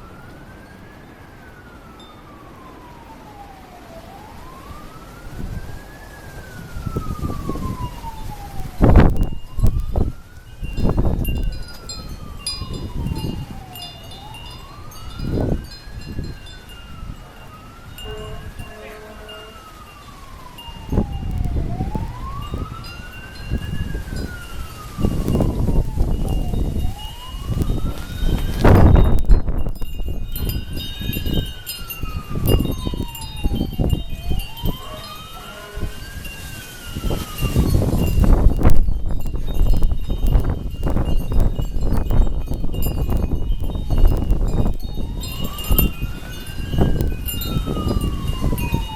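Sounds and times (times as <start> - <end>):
siren wailing: 0.0 - 48.9
wind chimes ringing: 1.6 - 2.4, 8.8 - 21.4, 22.1 - 48.9
wind buffeting microphone: 1.6 - 48.9.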